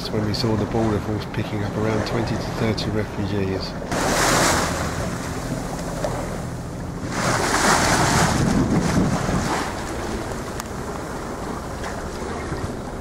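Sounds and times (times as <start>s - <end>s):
sea water splashing around boat: 0.0s - 13.0s
steady low drone: 0.0s - 13.0s
wind buffeting microphone: 0.0s - 13.0s.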